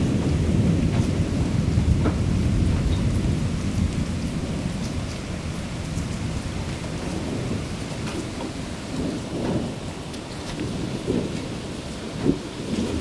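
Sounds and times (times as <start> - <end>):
raindrops tapping: 0.0 - 13.0
steady rain: 0.0 - 13.0
thunder rumbling: 0.0 - 13.0.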